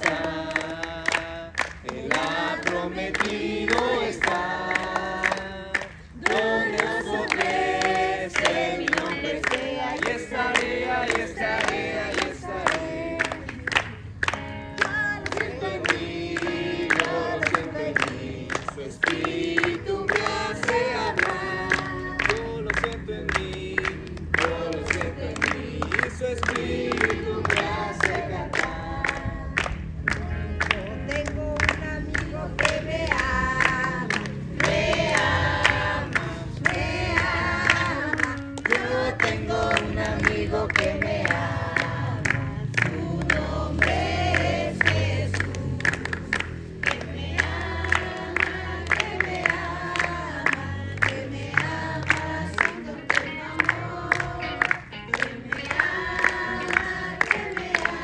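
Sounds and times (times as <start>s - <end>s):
group singing worship chorus: 0.0s - 58.0s
hands clapping to a beat: 0.0s - 58.0s.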